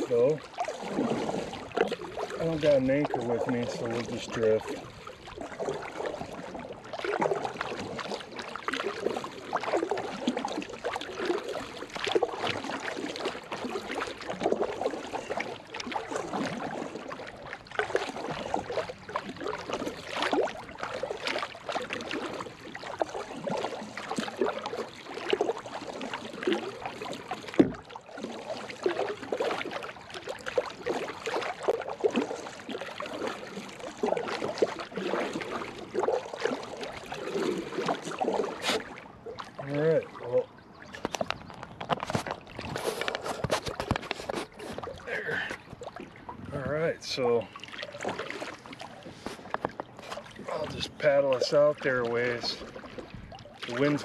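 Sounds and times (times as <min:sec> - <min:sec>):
small waves lapping against hull: 0:00.0 - 0:54.0.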